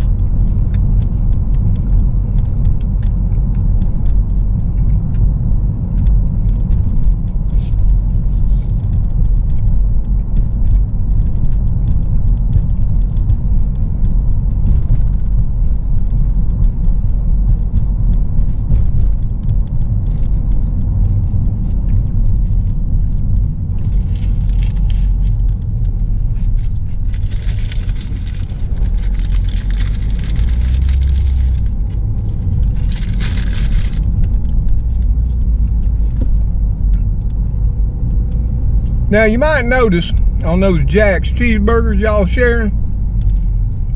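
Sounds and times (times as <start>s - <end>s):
car road rumble inside cabin: 0.0s - 43.9s.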